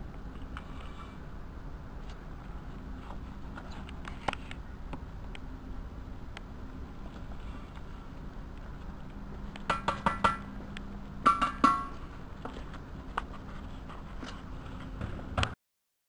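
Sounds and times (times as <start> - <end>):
faint steady hum: 0.0 - 15.6.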